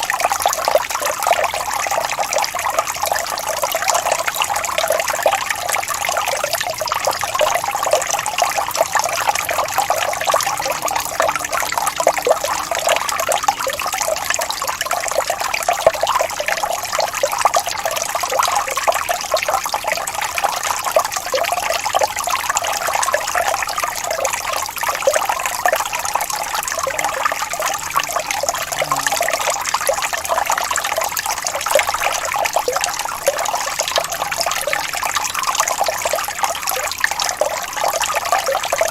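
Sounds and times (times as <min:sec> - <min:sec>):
water splashing over rocks: 0:00.0 - 0:38.9.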